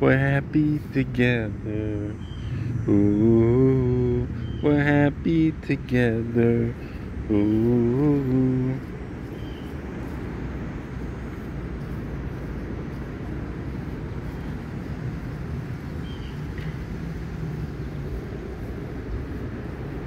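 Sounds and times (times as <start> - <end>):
faint low hum: 0.0 - 20.0
low outdoor rumble: 0.0 - 20.0.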